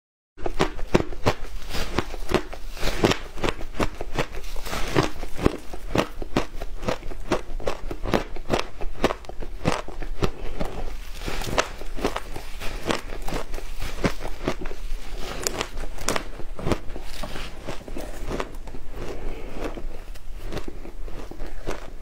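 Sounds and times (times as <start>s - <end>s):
shaved ice crunching being chewed: 0.4s - 22.0s.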